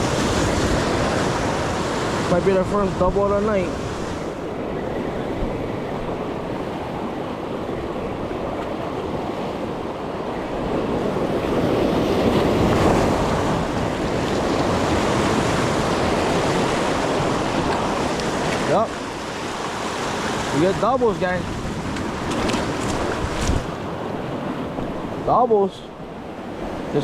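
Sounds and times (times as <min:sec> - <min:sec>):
wind on microphone: 0:00.0 - 0:25.3
waves washing on shore: 0:00.0 - 0:27.0.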